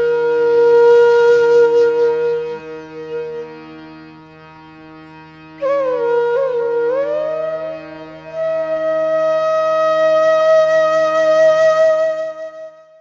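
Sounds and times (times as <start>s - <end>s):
wind instrument melody: 0.0s - 4.3s, 5.0s - 13.0s.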